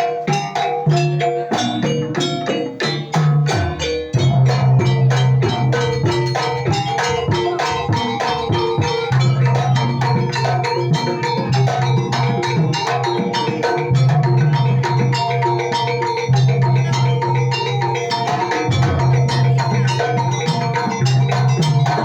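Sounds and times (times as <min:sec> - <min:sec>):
gamelan percussion: 0:00.0 - 0:22.0.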